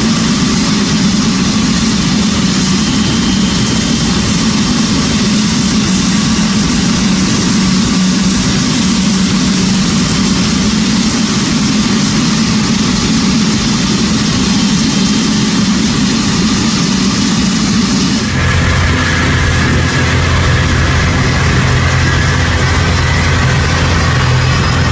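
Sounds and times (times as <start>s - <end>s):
jet engine running: 0.0s - 24.9s.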